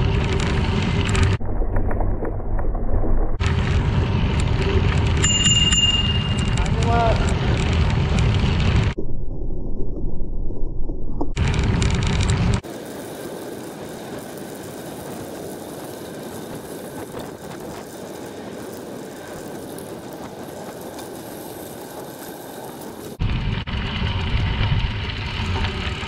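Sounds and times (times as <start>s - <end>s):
bicycle tyres on gravel: 0.0s - 9.0s, 11.4s - 26.0s.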